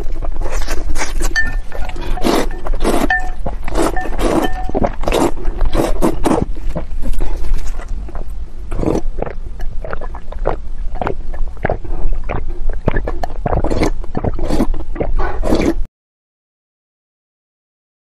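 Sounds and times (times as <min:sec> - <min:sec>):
person slurping and gulping broth: 0:00.0 - 0:15.9.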